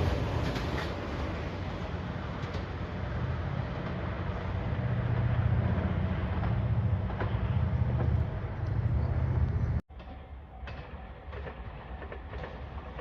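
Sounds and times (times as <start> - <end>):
train rumbling: 0.0 - 13.0
wheels clicking over rail joints: 0.0 - 13.0.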